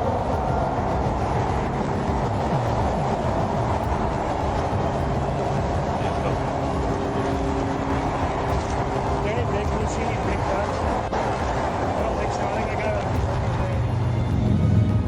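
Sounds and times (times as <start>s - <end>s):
car road and engine rumble: 0.0s - 15.0s
faint steady hum: 0.0s - 15.0s.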